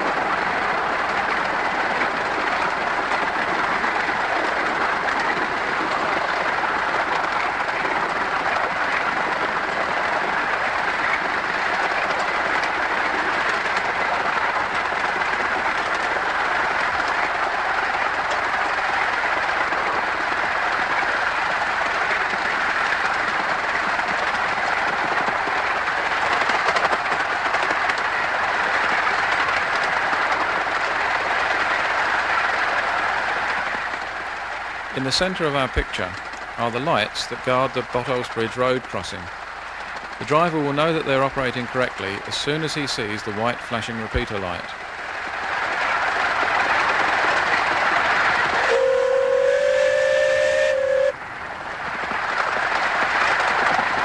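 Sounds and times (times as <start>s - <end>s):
miniature steam locomotive running: 0.0s - 54.0s.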